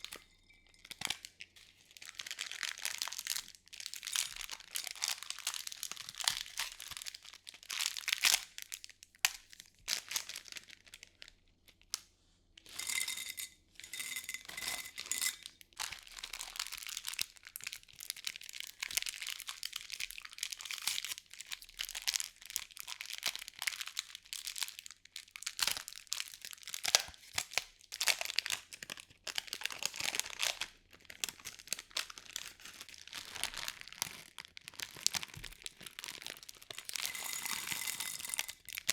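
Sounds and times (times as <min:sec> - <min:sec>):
packing material crinkling: 0:00.8 - 0:11.3, 0:15.8 - 0:38.9.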